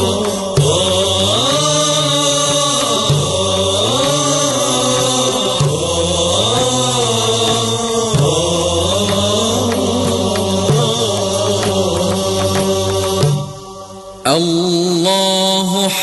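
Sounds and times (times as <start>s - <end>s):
wordless chanted vocals: 0.0s - 16.0s.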